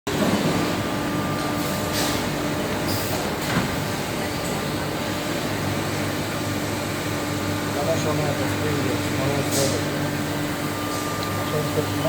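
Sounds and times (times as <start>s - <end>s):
machine humming with constant tones: 0.1s - 12.0s.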